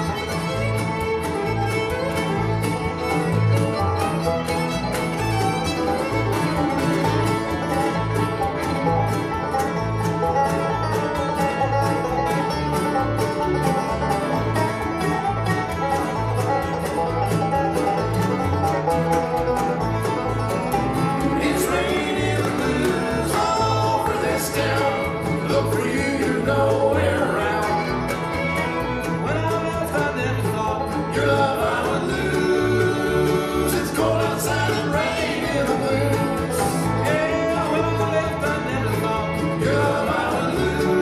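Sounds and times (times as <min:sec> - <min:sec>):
bluegrass band playing: 0:00.0 - 0:41.0.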